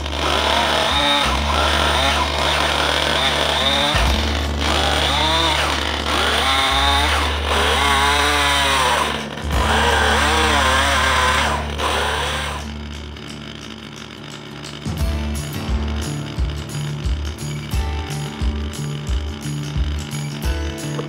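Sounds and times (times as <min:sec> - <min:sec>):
chainsaw cutting log: 0:00.0 - 0:21.0.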